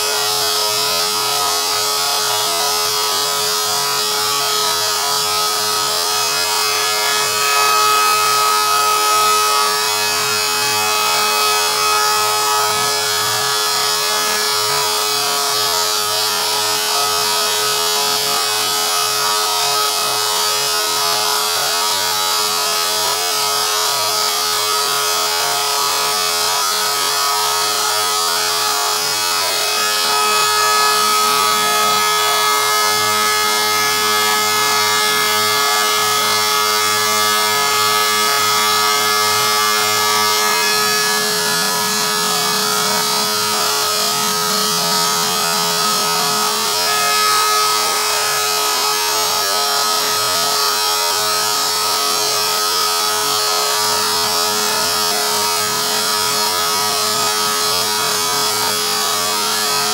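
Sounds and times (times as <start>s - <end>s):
router spindle whining: 0.0s - 23.6s, 24.3s - 52.8s.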